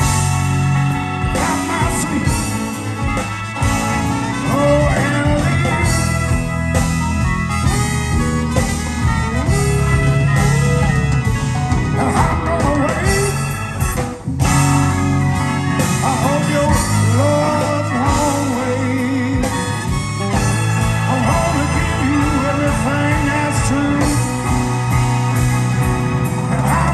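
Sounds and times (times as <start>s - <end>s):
person singing: 0.0s - 6.7s, 9.2s - 14.0s, 15.6s - 25.1s, 26.2s - 26.9s
bass and drums: 0.0s - 26.9s
electric guitar: 0.0s - 26.9s.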